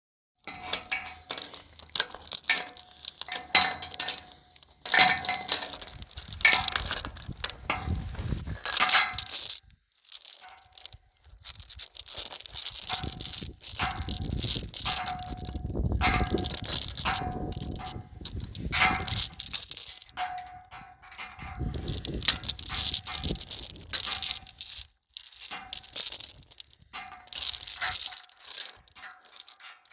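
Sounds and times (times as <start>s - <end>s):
metal chain rattling: 0.5s - 29.9s.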